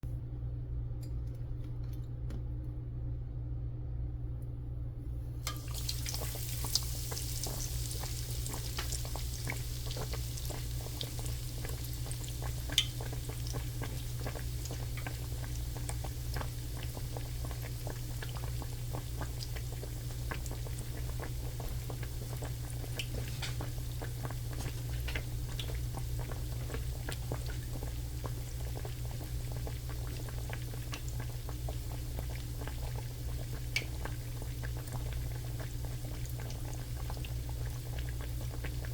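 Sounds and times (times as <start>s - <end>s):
steady low hum: 0.0s - 38.9s
shrimp sizzling in hot oil: 5.5s - 38.9s.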